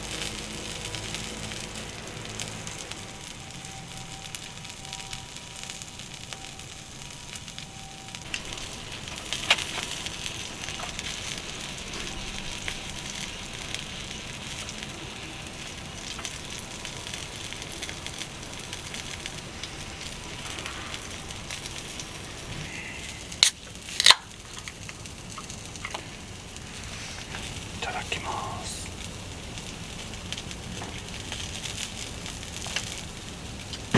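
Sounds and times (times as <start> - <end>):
campfire crackling: 0.0 - 33.9.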